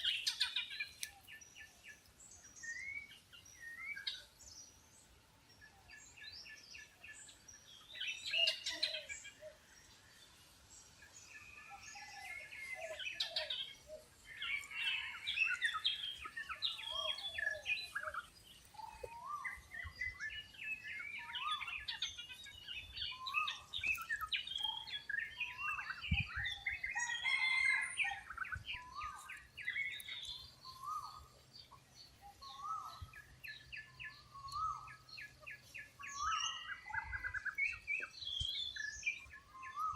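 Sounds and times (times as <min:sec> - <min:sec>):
birds chirping and whistling: 0:00.0 - 0:04.9, 0:05.5 - 0:39.9.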